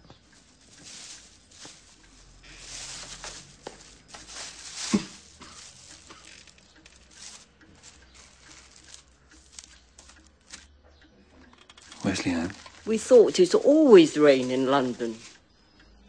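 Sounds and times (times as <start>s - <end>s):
soft rustling and scraping: 0.0s - 10.7s, 11.7s - 15.6s.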